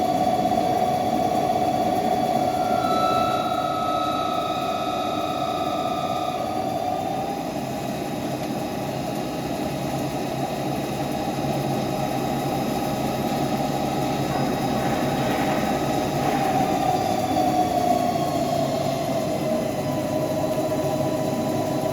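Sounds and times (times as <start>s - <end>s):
lathe machine hum: 0.0s - 21.9s
lower machine tone: 0.0s - 21.9s
machine whine: 0.0s - 21.9s.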